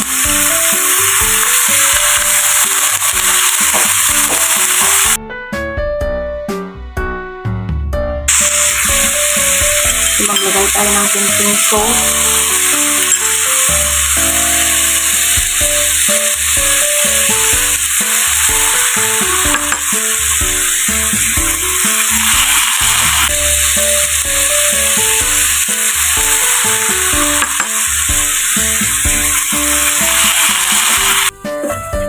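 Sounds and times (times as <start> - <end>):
meat sizzling in a hot pan: 0.0 - 5.2, 8.3 - 31.3
background music: 0.0 - 32.0.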